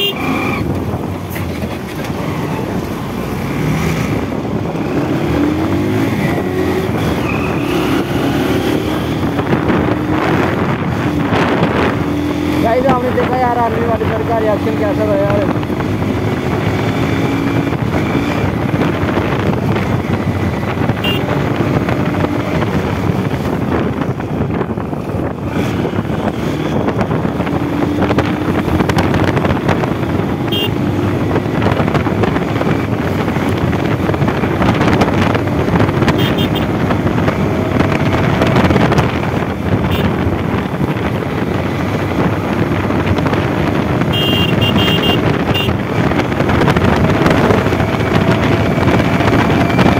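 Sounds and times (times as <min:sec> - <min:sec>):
motorcycle engine at road speed: 0:00.0 - 0:49.9
wind noise on microphone: 0:00.0 - 0:49.9.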